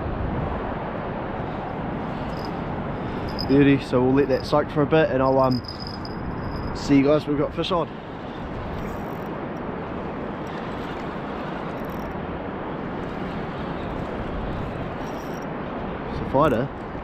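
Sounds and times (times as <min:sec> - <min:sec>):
outdoor hiss and rumble: 0:00.0 - 0:17.0.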